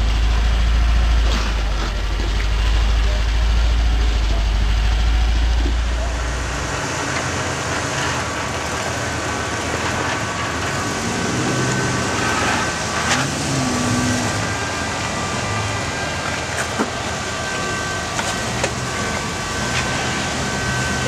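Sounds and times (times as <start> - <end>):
deep engine rumble: 0.0 - 21.0
vehicle engine crawling: 0.0 - 21.0.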